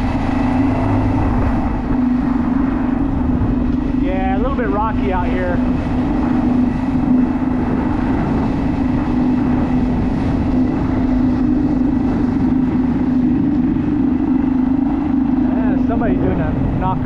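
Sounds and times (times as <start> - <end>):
kayak motor running: 0.0 - 17.0
low rumble of water and wind: 0.0 - 17.0.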